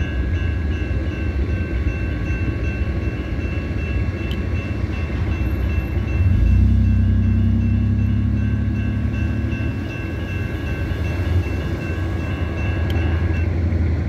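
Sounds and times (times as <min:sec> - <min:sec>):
low engine rumble: 0:00.0 - 0:14.0
railroad crossing bell ringing: 0:00.0 - 0:14.0.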